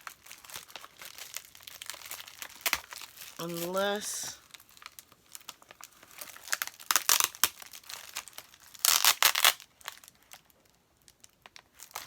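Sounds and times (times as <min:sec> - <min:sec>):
packaging material crinkling: 0:00.0 - 0:12.0.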